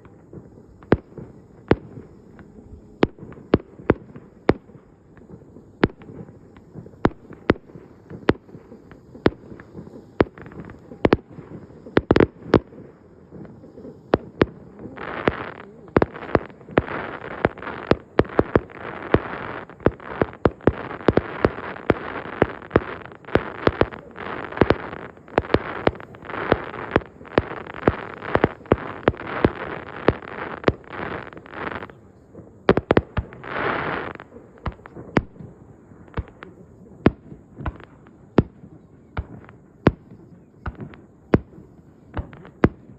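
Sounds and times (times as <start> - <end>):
fireworks bangs: 0.0 - 42.9
fireworks crackling: 0.0 - 42.9.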